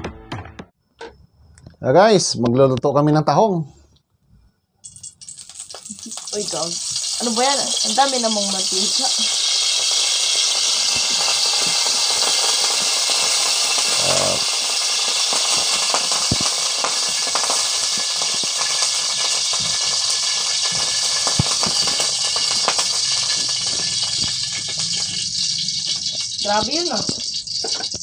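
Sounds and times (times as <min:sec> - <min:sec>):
oil sizzling with crackles: 0:04.8 - 0:28.0.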